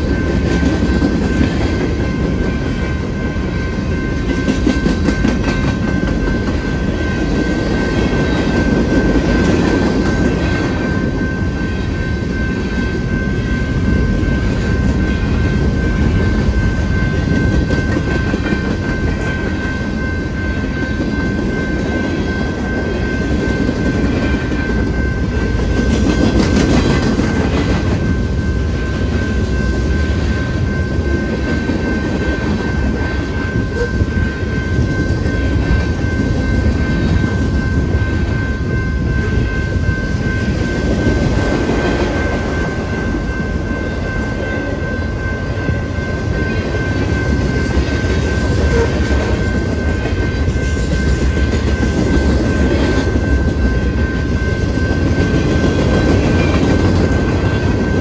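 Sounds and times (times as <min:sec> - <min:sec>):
crossing bell ringing: 0:00.0 - 0:58.0
train wheels clattering on rails: 0:00.0 - 0:58.0.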